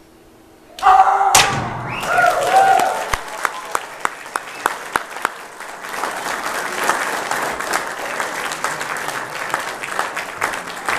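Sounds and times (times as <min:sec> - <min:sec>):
audience applauding: 0:01.9 - 0:10.9.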